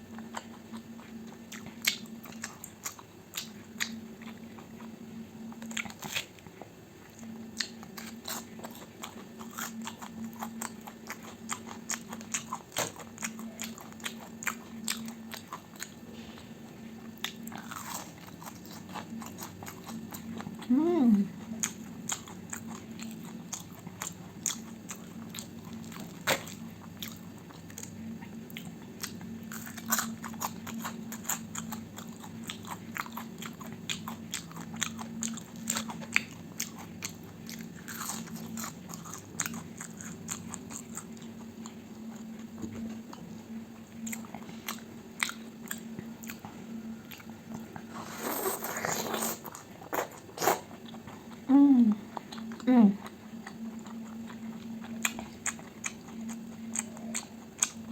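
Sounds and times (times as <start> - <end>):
chewing and crunching food: 0.0 - 57.9
low steady hum: 0.0 - 57.9.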